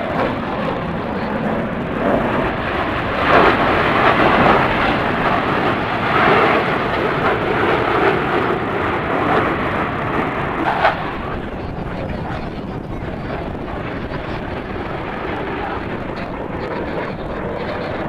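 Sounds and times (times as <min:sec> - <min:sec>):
airplane engine roar: 0:00.0 - 0:18.0.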